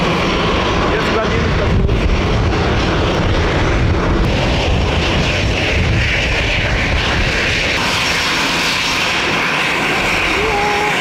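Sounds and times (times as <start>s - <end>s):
jet engines roaring with whine: 0.0s - 11.0s
wind buffeting microphone: 0.0s - 11.0s.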